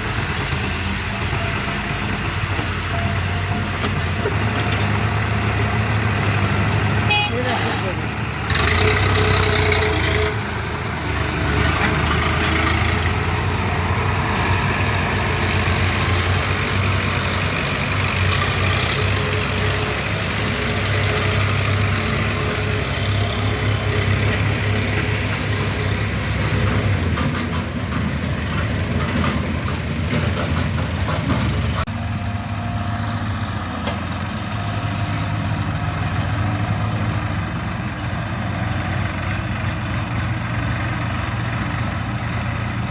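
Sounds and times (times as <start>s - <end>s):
diesel machinery engine running: 0.0s - 42.9s.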